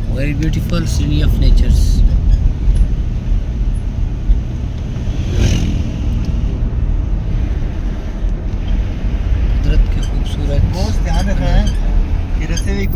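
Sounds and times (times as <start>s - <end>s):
vehicle engine and road rumble: 0.0s - 12.9s.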